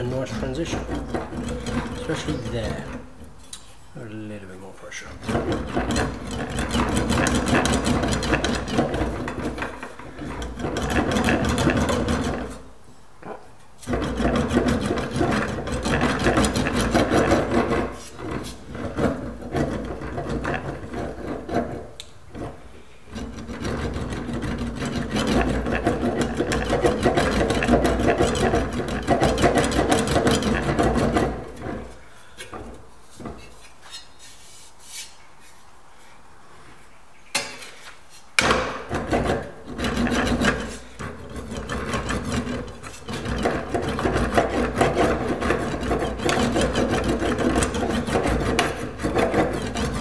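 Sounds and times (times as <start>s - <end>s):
metal panel rasping through wheel: 0.0s - 3.2s, 5.2s - 12.7s, 13.8s - 32.0s, 38.8s - 50.0s.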